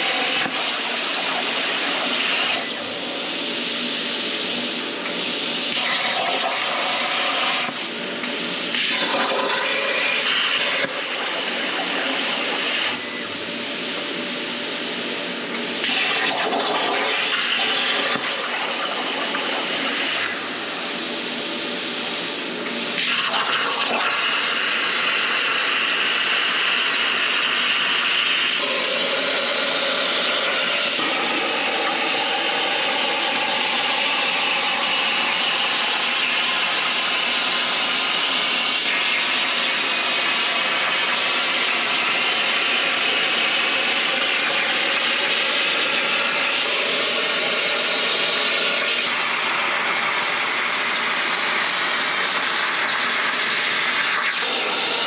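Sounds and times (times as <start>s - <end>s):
plasma cutter hissing: 0.0s - 14.0s, 15.3s - 21.2s, 22.6s - 55.0s.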